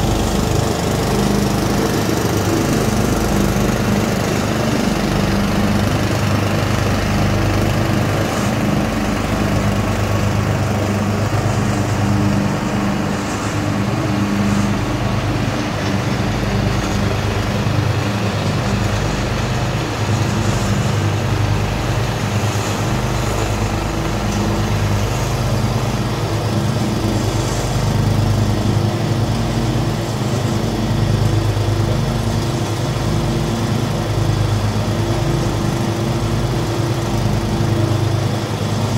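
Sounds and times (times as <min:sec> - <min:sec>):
riding mower engines running: 0:00.0 - 0:38.9.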